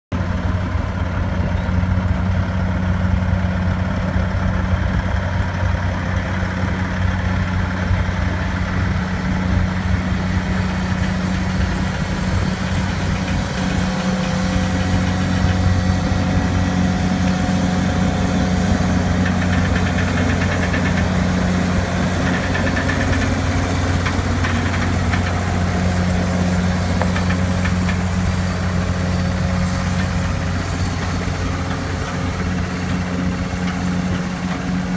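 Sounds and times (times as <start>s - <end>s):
truck diesel engine droning: 0.1s - 34.9s.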